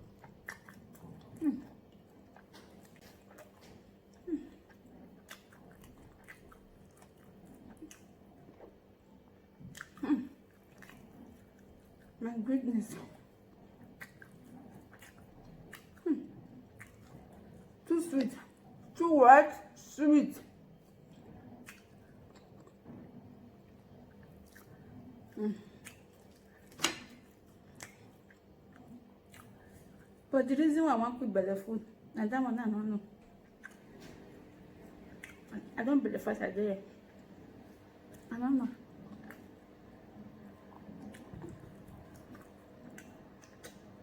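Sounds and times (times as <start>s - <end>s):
person chewing food: 0.0s - 12.2s, 13.0s - 18.9s, 20.5s - 30.3s, 33.2s - 35.7s, 37.0s - 44.0s.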